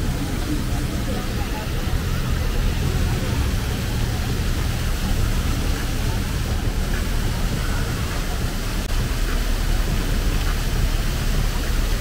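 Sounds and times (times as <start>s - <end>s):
crowd chatter: 0.0s - 12.0s
traffic rumble: 0.0s - 12.0s.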